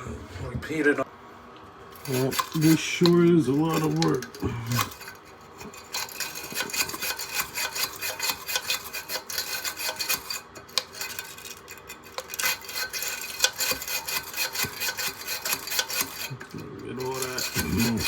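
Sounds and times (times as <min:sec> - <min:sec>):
brush scrubbing metal fins: 0:01.9 - 0:18.0.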